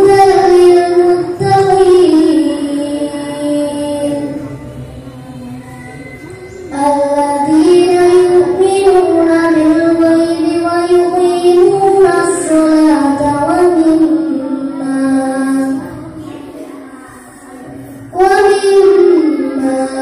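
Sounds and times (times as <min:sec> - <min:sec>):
boy chanting through loudspeaker: 0:00.0 - 0:20.0.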